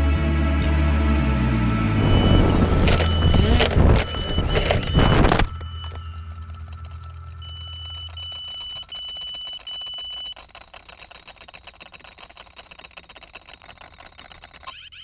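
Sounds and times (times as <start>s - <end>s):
electronic alarm beeping: 2.0s - 15.0s.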